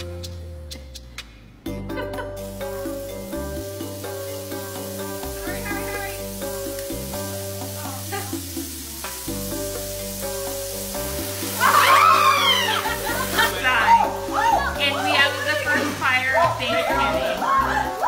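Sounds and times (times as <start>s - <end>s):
music with repeating bass line: 0.0s - 18.0s
food sizzling on griddle: 2.4s - 18.0s.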